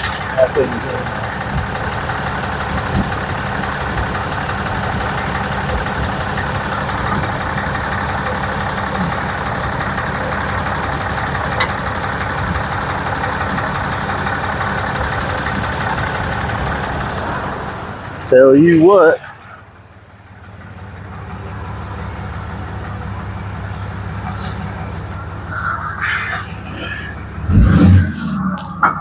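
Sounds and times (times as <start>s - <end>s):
machine engine-like drone: 0.0s - 18.3s, 19.4s - 29.0s.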